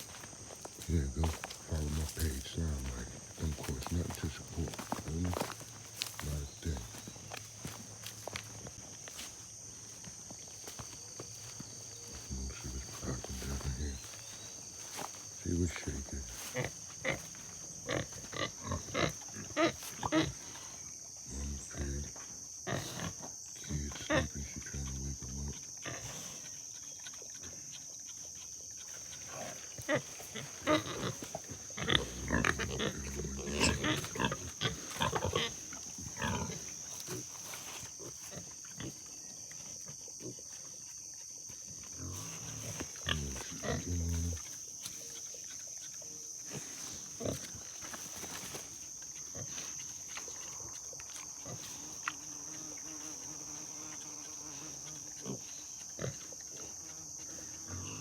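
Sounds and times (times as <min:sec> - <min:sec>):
pigs grunting: 0:00.0 - 0:58.0
steady high-pitched hiss: 0:00.0 - 0:58.0.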